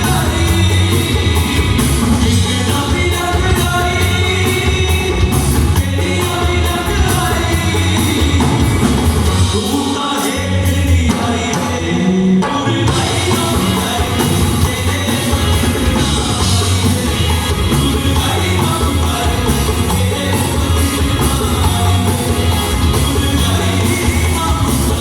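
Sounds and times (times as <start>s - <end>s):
drum and bass beat: 0.0s - 12.1s, 12.7s - 25.0s
live band music: 0.0s - 25.0s
person singing: 0.0s - 25.0s.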